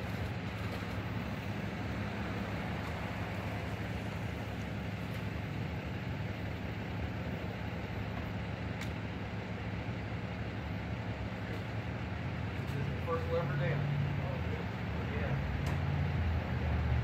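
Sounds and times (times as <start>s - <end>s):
engine idling hum: 0.0s - 17.0s.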